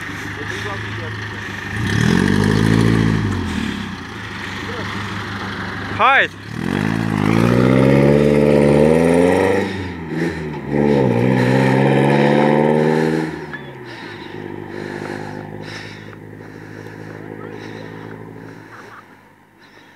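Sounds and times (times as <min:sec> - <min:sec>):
car engine accelerating: 0:00.0 - 0:19.9.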